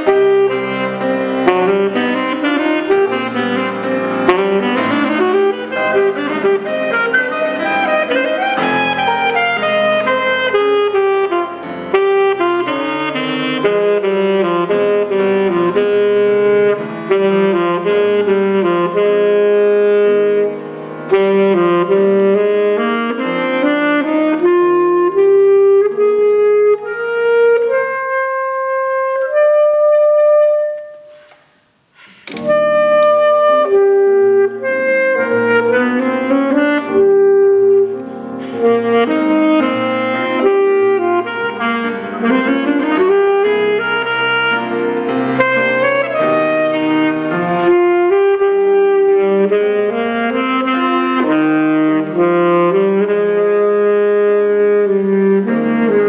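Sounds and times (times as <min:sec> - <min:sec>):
alto saxophone solo: 0:00.0 - 0:56.0
piano accompaniment: 0:00.0 - 0:56.0.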